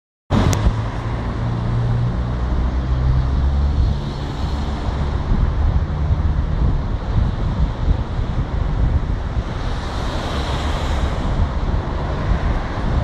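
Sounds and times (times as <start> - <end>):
low engine hum: 0.3 - 13.0
road traffic noise: 0.3 - 13.0
wind buffeting microphone: 0.3 - 13.0.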